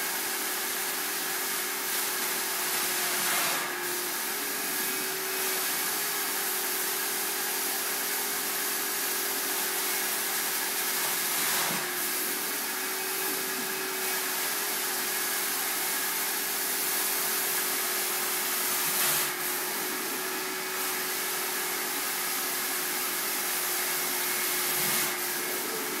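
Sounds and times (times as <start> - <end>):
steam cleaning wand suction hiss: 0.1 - 26.0.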